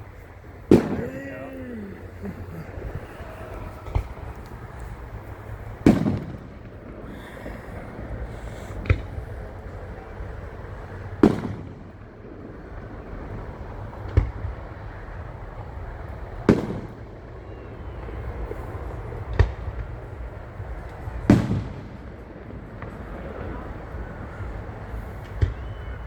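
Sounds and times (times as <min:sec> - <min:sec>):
low background noise: 0:00.0 - 0:26.0
fireworks bangs with echo: 0:00.2 - 0:26.0.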